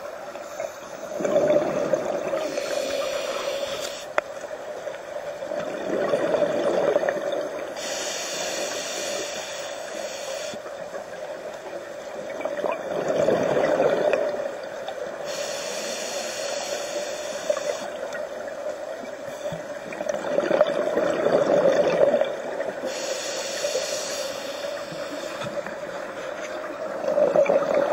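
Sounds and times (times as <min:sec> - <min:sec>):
underwater exhaust bubbles: 0:00.0 - 0:27.9.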